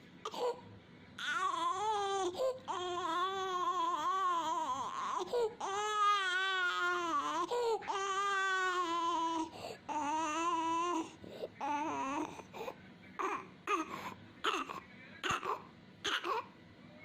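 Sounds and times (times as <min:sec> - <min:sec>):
infant crying: 0:01.2 - 0:16.5.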